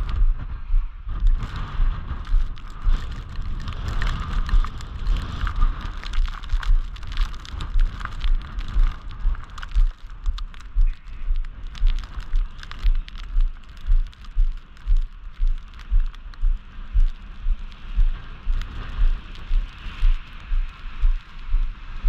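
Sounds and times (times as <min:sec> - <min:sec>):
footsteps crunching on snow: 0:01.2 - 0:22.0.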